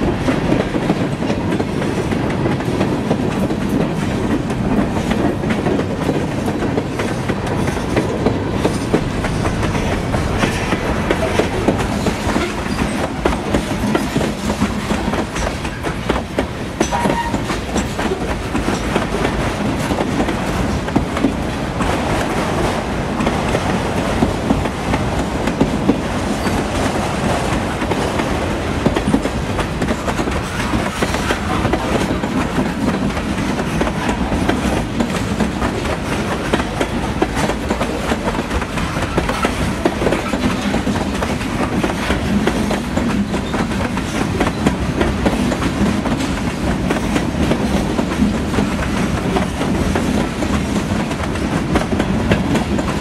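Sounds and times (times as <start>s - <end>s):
clickety-clack over rail joints: 0.0s - 53.0s
steel wheels rumbling on rail: 0.0s - 53.0s.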